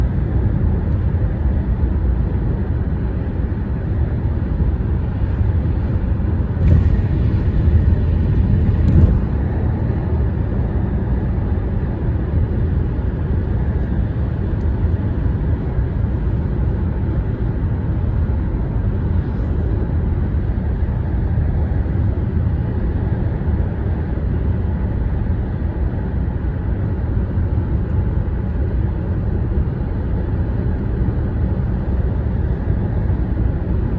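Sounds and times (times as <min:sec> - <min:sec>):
traffic rumble on bridge: 0:00.0 - 0:33.9.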